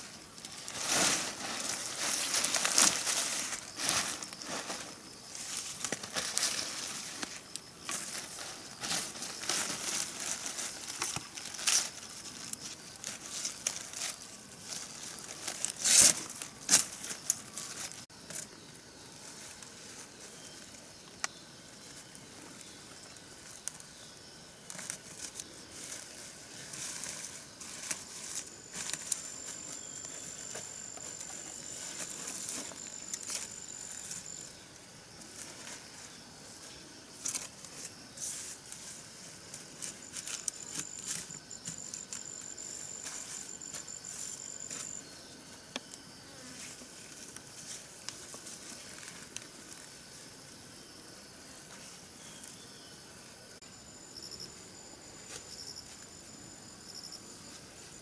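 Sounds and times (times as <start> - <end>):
rustling and crinkling: 0.0 - 24.0, 24.6 - 50.0.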